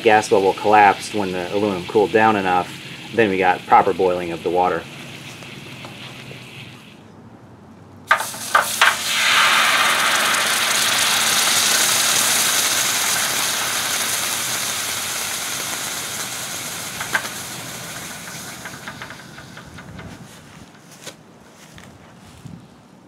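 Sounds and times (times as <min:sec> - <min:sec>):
hot metal sizzling in water: 0:00.0 - 0:07.0, 0:08.1 - 0:19.9.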